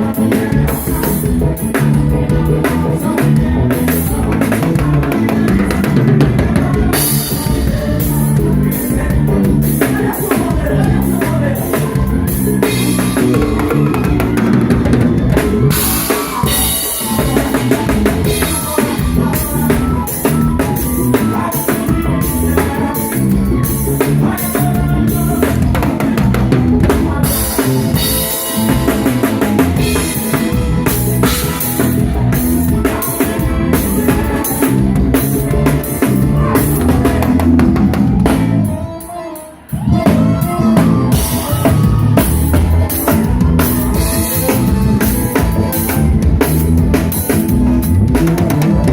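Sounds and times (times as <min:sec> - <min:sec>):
bass drum and snare beat: 0:00.0 - 0:38.7, 0:39.8 - 0:48.9
band playing: 0:00.0 - 0:48.9.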